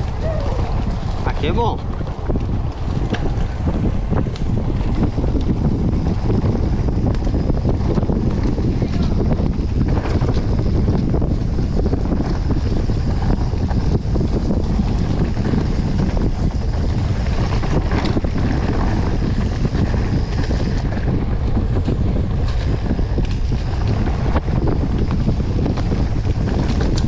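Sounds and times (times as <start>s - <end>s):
bike tyres rumbling on dirt trail: 0.0s - 27.0s
wind buffeting microphone: 0.0s - 27.0s.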